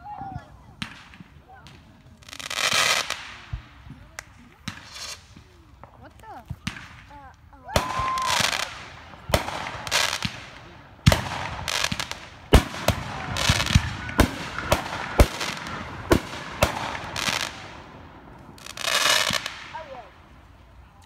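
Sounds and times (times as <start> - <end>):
firework bangs: 0.7 - 21.0
hissing firework crackle: 0.8 - 21.0.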